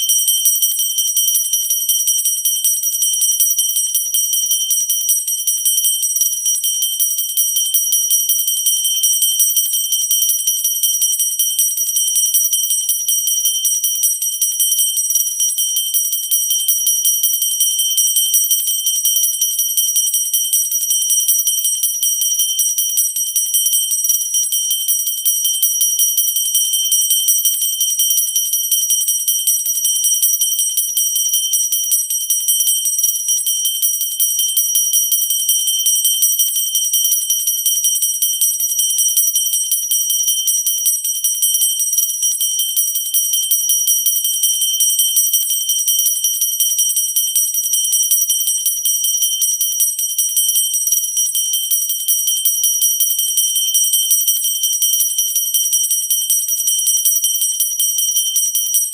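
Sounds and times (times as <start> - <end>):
small bell ringing fast: 0.0 - 58.9.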